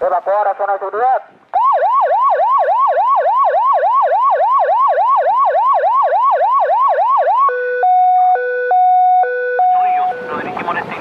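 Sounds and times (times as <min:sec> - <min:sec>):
electronic siren yelping: 0:01.6 - 0:11.0.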